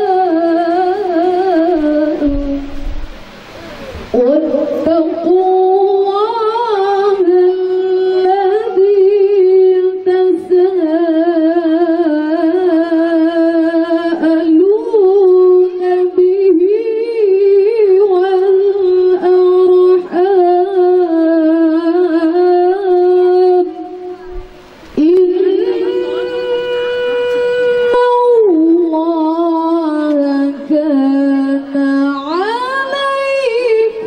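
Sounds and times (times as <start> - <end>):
person chanting melodic recitation: 0.0 - 34.0.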